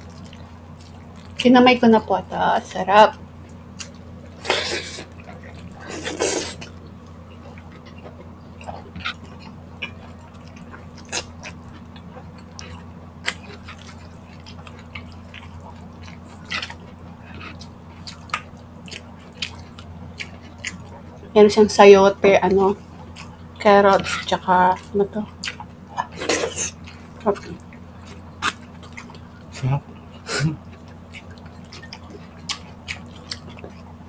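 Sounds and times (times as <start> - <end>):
chewing and wet mouth noises: 0.0 - 34.0
steady low hum: 0.0 - 34.0.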